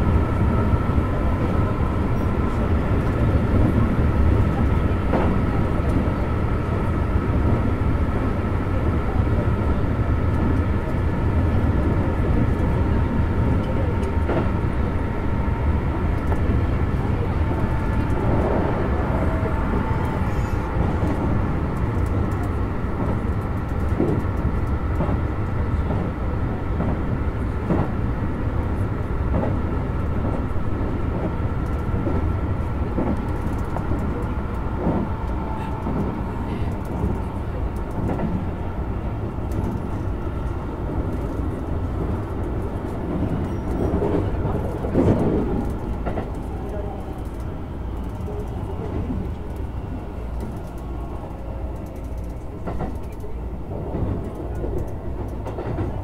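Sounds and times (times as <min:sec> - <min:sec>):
train wheels rumbling on track: 0:00.0 - 0:56.0
light clicks from rails: 0:01.4 - 0:06.8, 0:10.2 - 0:14.8, 0:16.0 - 0:28.0, 0:28.6 - 0:56.0.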